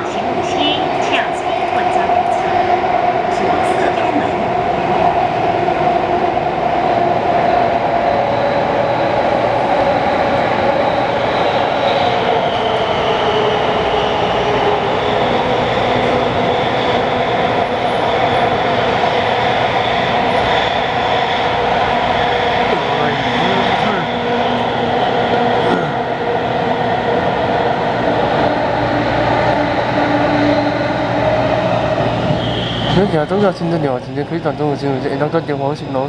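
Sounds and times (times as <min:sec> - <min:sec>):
subway car rumbling: 0:00.0 - 0:36.0.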